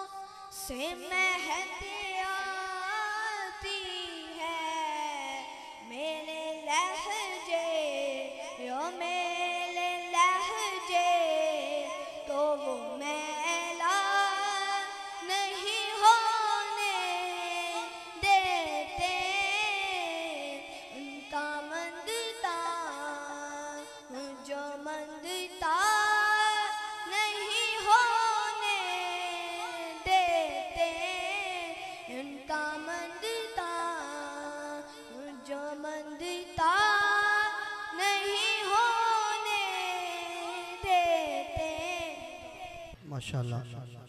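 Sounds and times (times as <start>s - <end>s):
boy singing unaccompanied: 0.0s - 42.7s.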